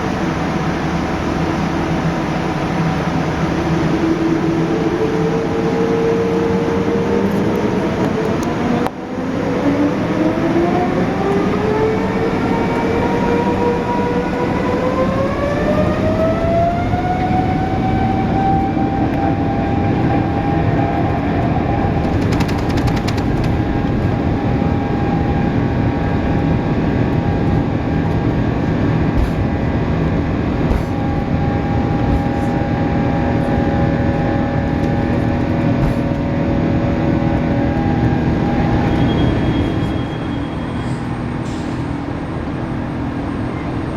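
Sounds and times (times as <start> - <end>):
jet engines spooling up: 0.0 - 43.9.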